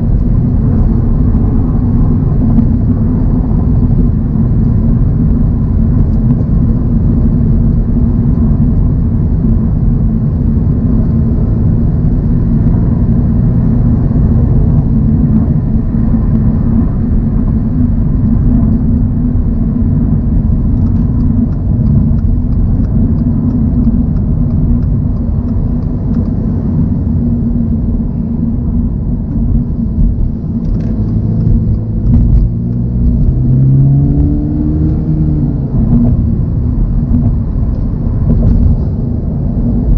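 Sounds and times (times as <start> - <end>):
car engine cruising: 0.0 - 39.9
tyre and road noise: 0.0 - 39.9.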